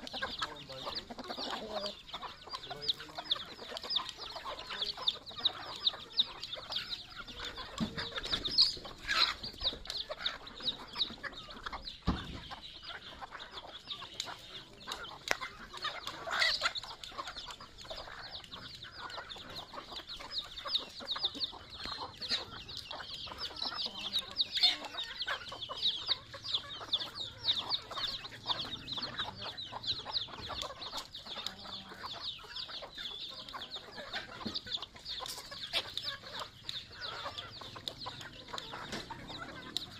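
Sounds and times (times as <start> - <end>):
chicks peeping: 0.0 - 39.9
hens clucking: 0.0 - 39.9.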